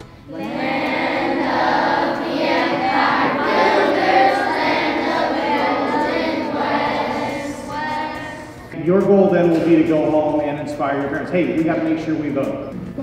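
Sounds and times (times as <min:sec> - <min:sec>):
children's choir singing: 0:00.0 - 0:12.3.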